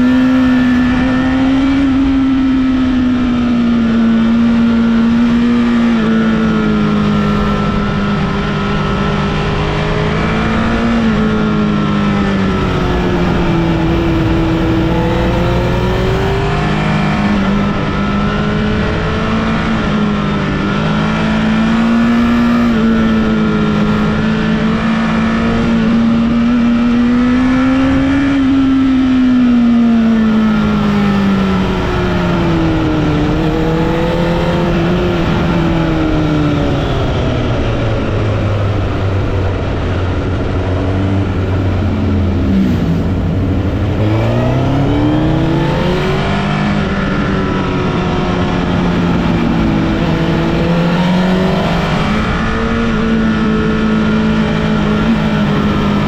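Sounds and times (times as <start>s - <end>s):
motorcycle engine revving: 0.0s - 56.0s
road and wind noise: 0.0s - 56.0s.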